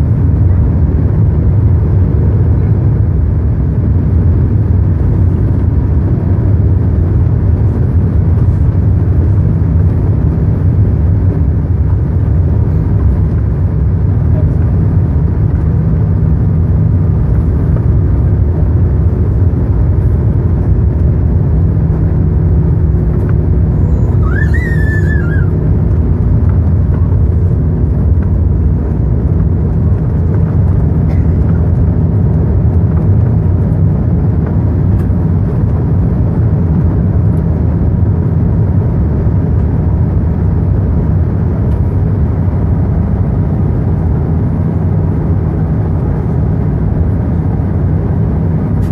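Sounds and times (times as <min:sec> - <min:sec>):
jet engines low rumble: 0:00.0 - 0:48.9.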